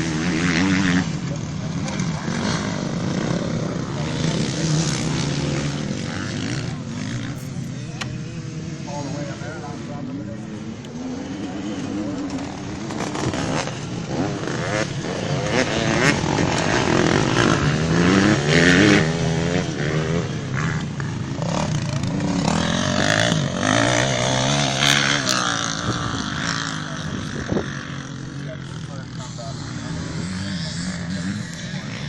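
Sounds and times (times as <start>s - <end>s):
motocross bike engines revving: 0.0s - 32.0s.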